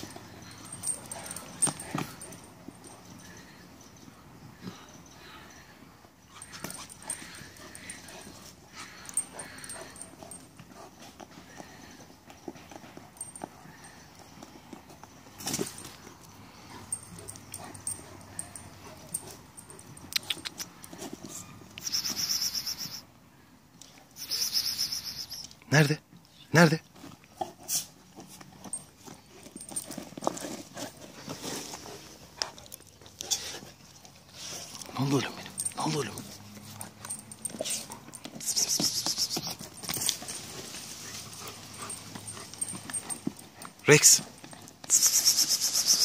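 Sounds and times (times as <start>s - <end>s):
metal chain clinking and rattling: 0.0s - 4.0s, 6.2s - 23.0s, 26.6s - 46.0s.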